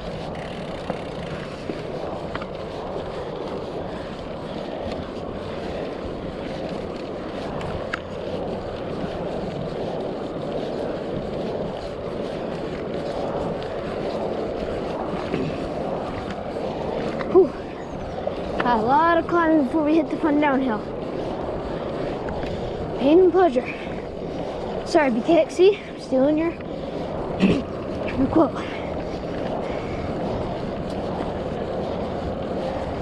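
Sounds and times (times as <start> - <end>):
bike clicks and rattles: 0.0 - 33.0
bike tyre noise on dirt: 0.0 - 33.0
wind on microphone: 0.0 - 33.0.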